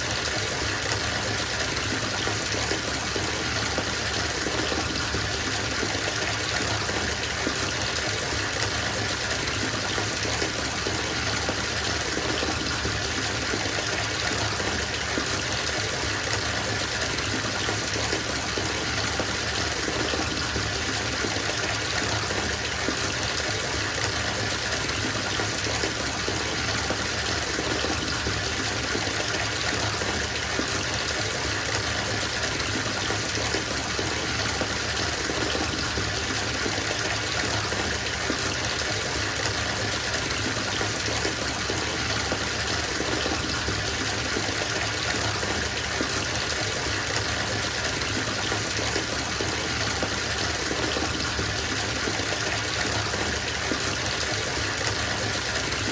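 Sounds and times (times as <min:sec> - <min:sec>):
tap water gushing into tub: 0:00.0 - 0:55.9.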